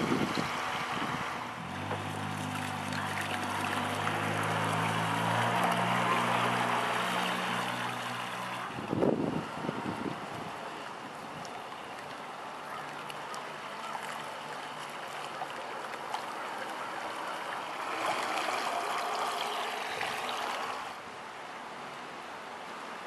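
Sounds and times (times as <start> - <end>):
model boat motors running: 0.0 - 21.2
water rushing: 0.0 - 23.0.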